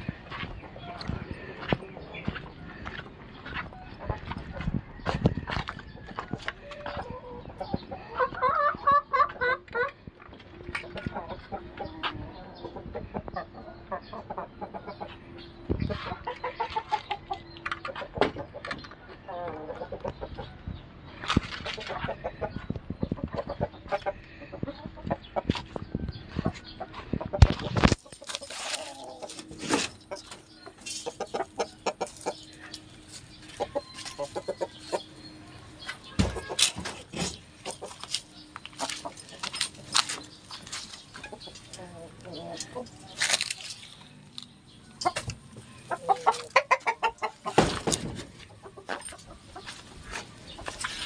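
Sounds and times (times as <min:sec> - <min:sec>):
chickens clucking: 0:00.0 - 0:51.0.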